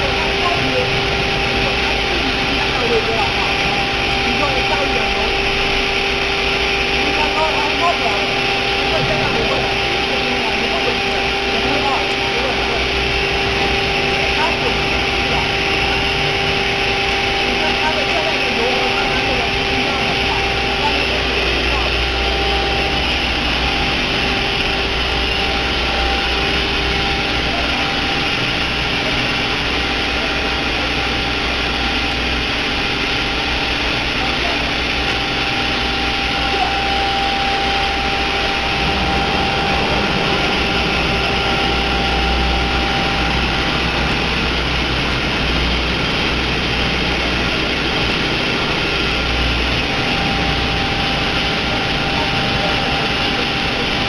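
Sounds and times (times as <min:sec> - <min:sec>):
wire saw cutting: 0:00.0 - 0:54.0.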